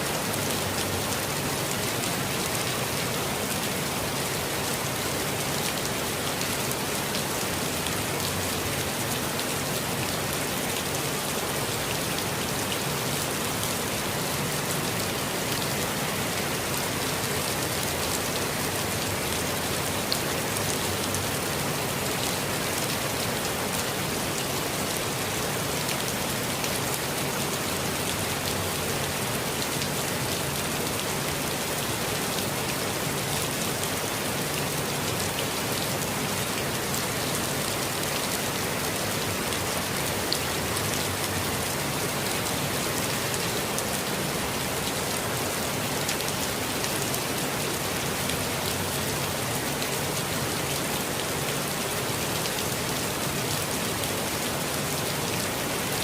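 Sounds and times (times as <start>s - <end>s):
rain falling on forest: 0.0s - 56.0s.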